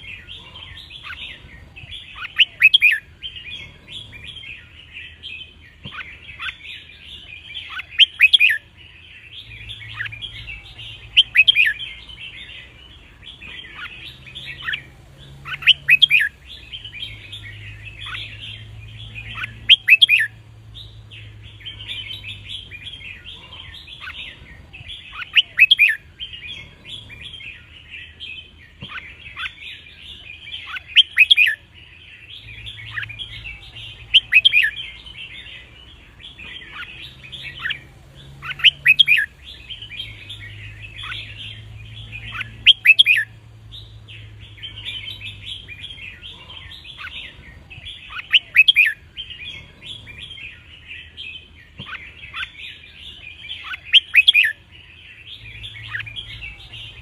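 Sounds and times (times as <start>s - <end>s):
bulbuls singing: 0.0s - 57.0s
chattering bird twitter: 0.0s - 57.0s.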